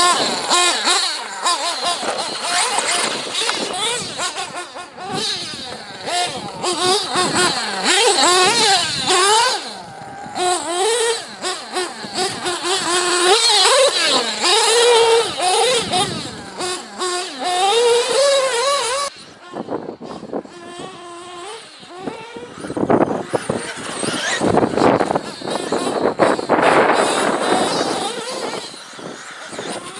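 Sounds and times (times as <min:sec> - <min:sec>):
small nitro engines revving: 0:00.0 - 0:29.9.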